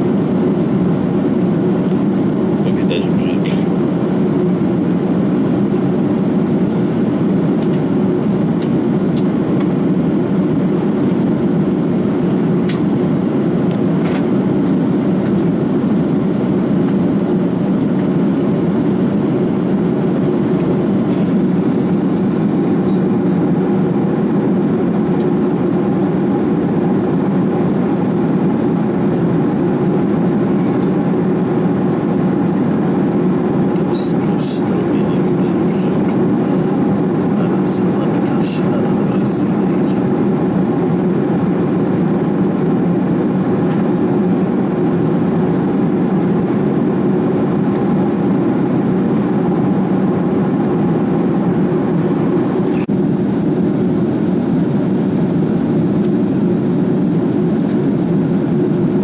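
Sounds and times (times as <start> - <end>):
airliner cabin roar: 0.0 - 59.0.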